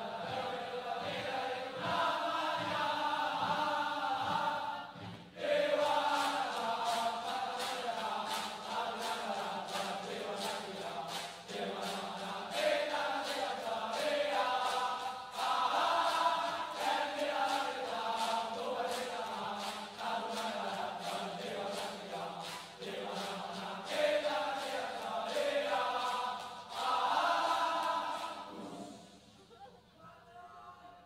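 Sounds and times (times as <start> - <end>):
men chanting and singing: 0.0 - 28.8
sharp rhythmic hits: 0.0 - 28.8.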